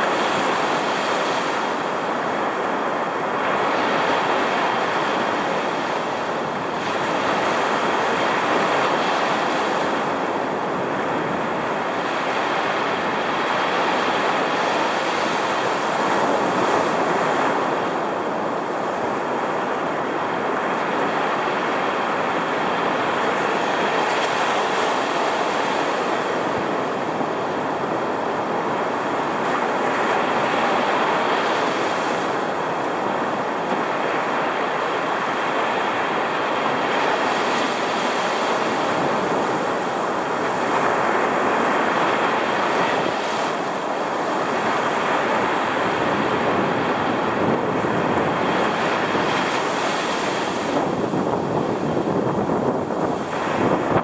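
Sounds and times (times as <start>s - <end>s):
ocean surf breaking: 0.0s - 54.0s
strong wind: 0.0s - 54.0s.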